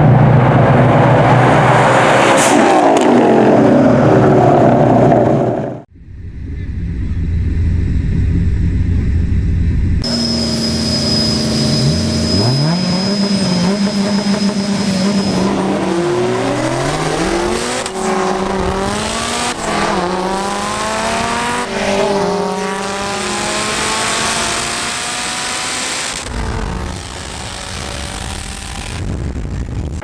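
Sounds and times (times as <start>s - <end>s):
racing car engines accelerating: 0.0s - 5.9s, 10.0s - 29.5s.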